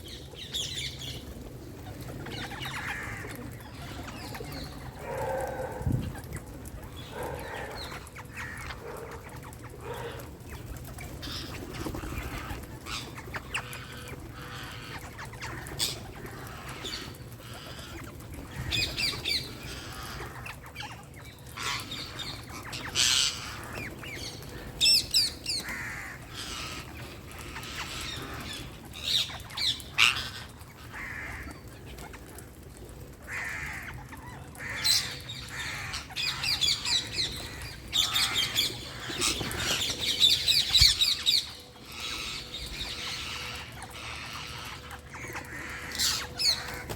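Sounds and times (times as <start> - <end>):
outdoor background noise: 0.0 - 46.9
parakeets squawking: 2.0 - 6.2, 6.8 - 31.7, 33.3 - 46.9.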